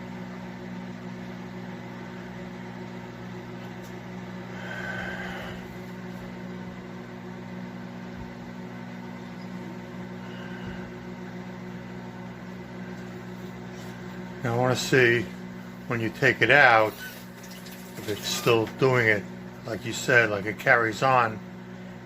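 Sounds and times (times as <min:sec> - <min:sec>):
microwave oven humming: 0:00.0 - 0:22.0.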